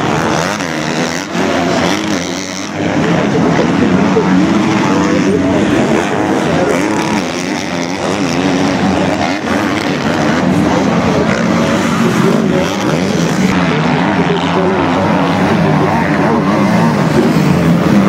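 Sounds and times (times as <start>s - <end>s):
motocross bike engines running hard: 0.0s - 18.0s.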